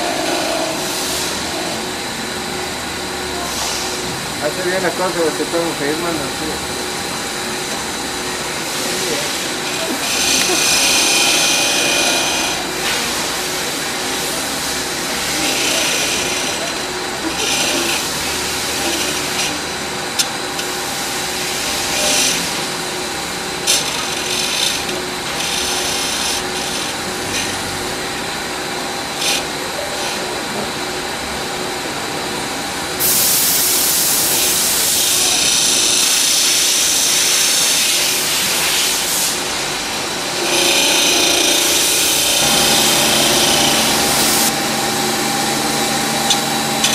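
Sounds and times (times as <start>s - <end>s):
knife grinder hum and grinding: 0.0s - 46.9s.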